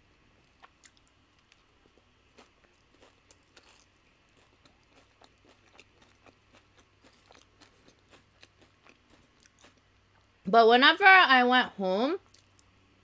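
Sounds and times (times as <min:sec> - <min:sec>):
chewing crunchy food: 0:00.3 - 0:10.3, 0:12.2 - 0:12.9.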